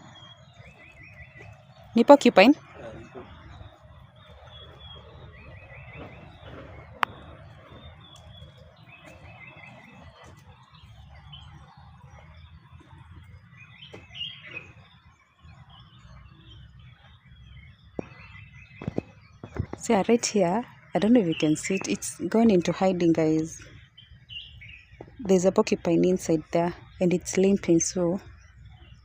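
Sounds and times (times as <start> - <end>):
low rumbling background: 0.0 - 29.0.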